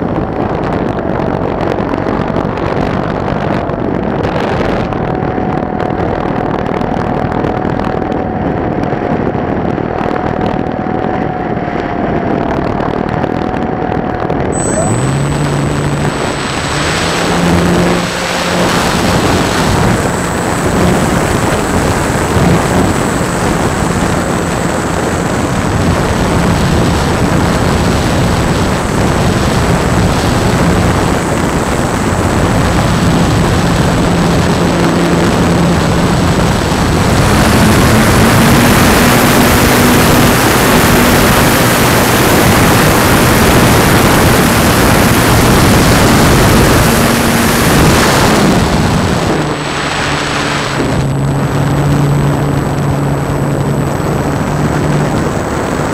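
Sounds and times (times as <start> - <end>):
wind rush on microphone: 0.0 - 55.9.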